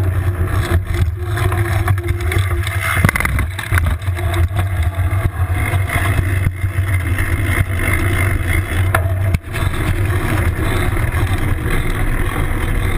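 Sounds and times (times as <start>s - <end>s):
bike knocking over bumps: 0.0s - 12.9s
road vibration rumble: 0.0s - 12.9s.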